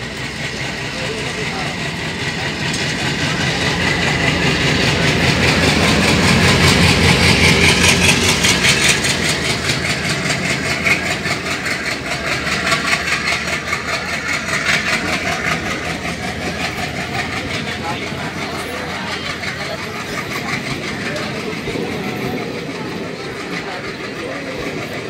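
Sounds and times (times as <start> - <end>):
coaches rolling past: 0.0 - 25.0
diesel locomotive engine passing: 0.0 - 25.0.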